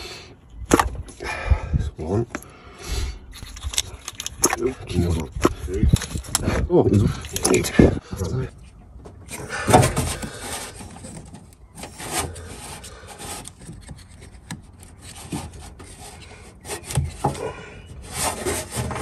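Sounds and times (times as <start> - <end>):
rubbing and scraping: 3.2 - 19.0.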